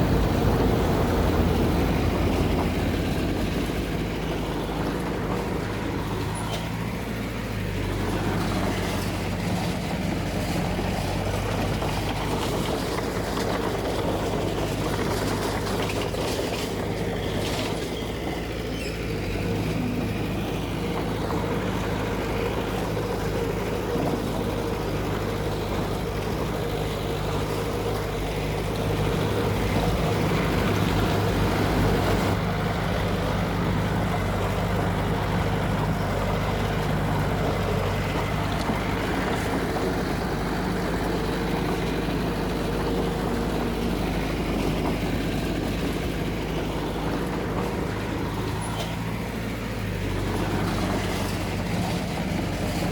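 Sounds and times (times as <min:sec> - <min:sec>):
diesel machinery engine running: 0:00.0 - 0:52.9.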